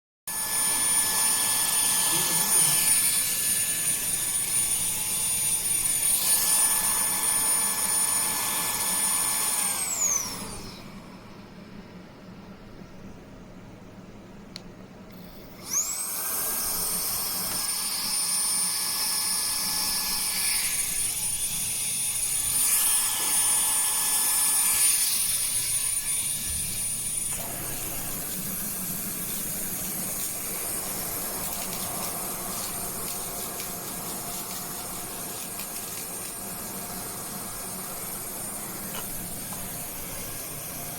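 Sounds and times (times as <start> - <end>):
vacuum cleaner motor whine: 0.3 - 12.6, 15.1 - 40.9.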